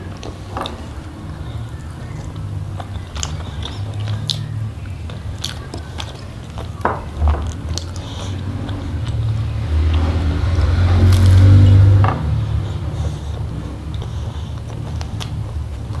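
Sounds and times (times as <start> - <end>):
chewing and biting: 0.0 - 16.0
low hum: 0.0 - 16.0
wet mouth clicks and smacks: 1.7 - 9.2, 9.8 - 16.0.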